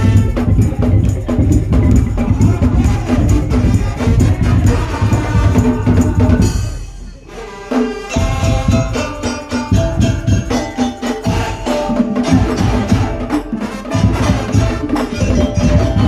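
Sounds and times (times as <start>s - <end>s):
dense loud drumming: 0.0s - 7.1s, 8.1s - 16.0s.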